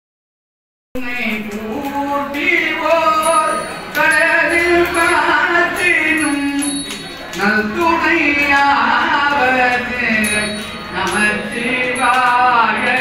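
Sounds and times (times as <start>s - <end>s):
voices chanting: 2.4s - 13.0s.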